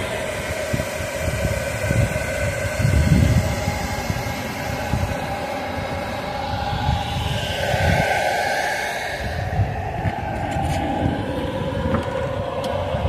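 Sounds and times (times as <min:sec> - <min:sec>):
heat gun blower hum and whine: 0:00.0 - 0:13.0.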